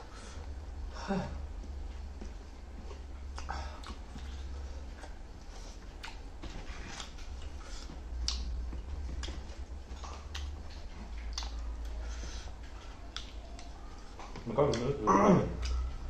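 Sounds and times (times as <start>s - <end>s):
low hum: 0.0s - 16.0s
chewing with mouth clicks: 1.6s - 16.0s.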